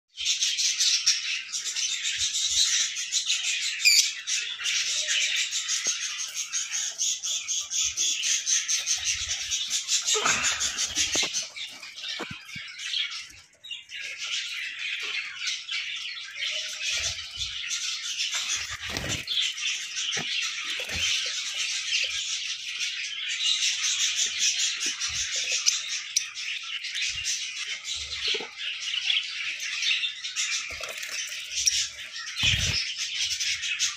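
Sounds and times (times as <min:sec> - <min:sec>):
lovebirds chattering and squawking: 0:00.2 - 0:33.9.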